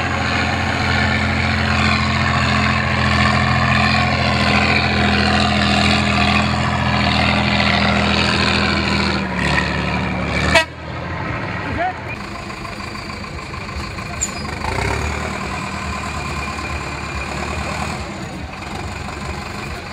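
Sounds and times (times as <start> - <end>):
vehicle engine running under load: 0.0 - 19.9.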